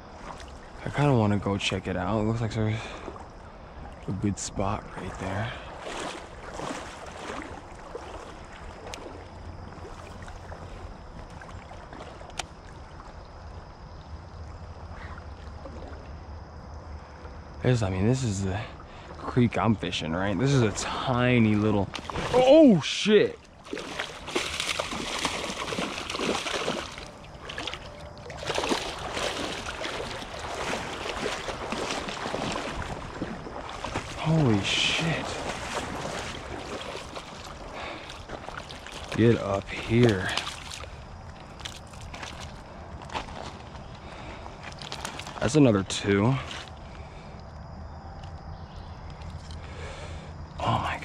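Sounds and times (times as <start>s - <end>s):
water sloshing: 0.0s - 47.5s.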